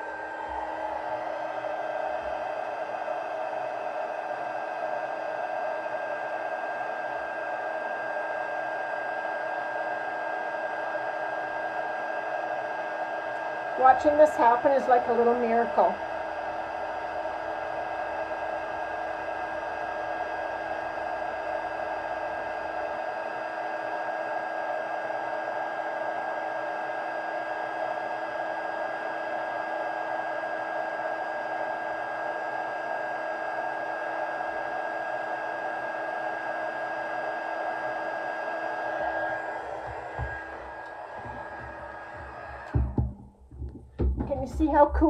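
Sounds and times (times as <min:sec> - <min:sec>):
heat gun fan whining: 0:00.0 - 0:45.0.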